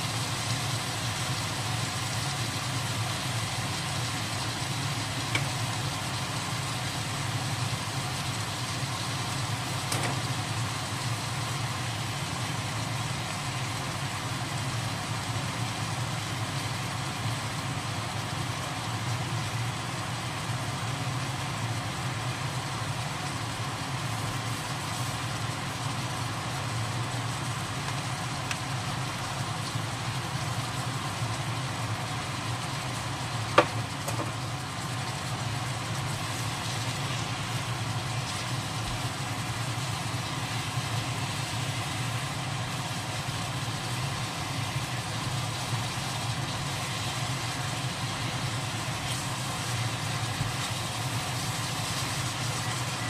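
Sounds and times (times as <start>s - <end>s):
squid sizzling in a wok: 0.0s - 53.0s.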